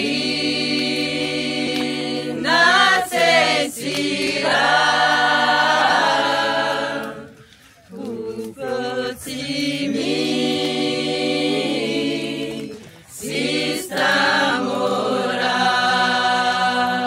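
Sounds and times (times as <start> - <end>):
group singing a cappella: 0.0 - 17.0.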